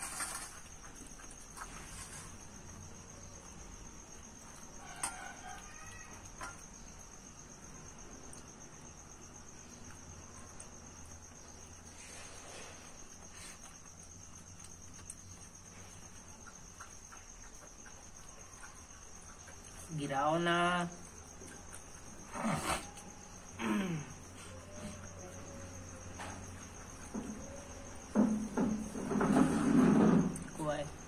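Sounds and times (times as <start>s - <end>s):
cricket trilling: 0.0s - 31.0s.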